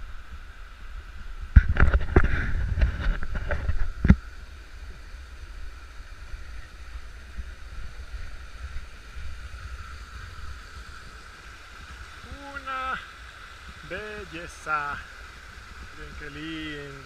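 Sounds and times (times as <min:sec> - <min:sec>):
creek rushing: 0:00.0 - 0:17.0.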